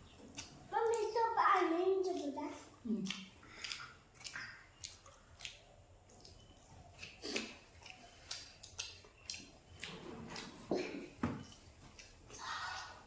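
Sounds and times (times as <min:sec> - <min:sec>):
wet crunchy chewing: 0:00.0 - 0:13.0.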